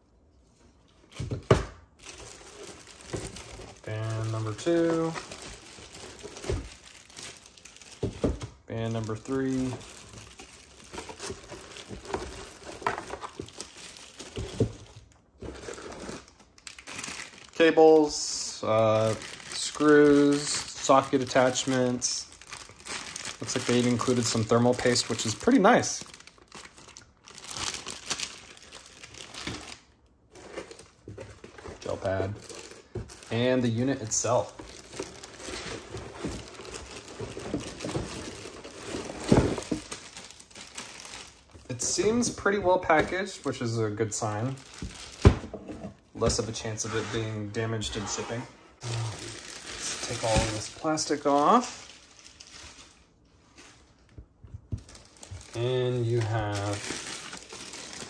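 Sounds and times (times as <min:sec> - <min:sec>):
plastic bags crinkling: 0:00.9 - 0:45.5, 0:48.8 - 0:54.0, 0:54.7 - 0:58.0.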